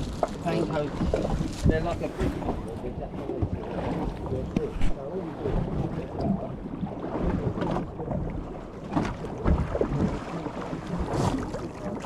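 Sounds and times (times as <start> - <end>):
water against hull: 0.0 - 12.0
wind buffeting microphone: 0.0 - 12.0.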